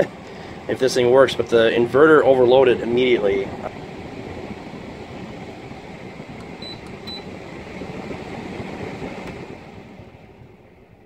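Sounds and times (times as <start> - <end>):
air conditioner fan whooshing: 0.0 - 11.0.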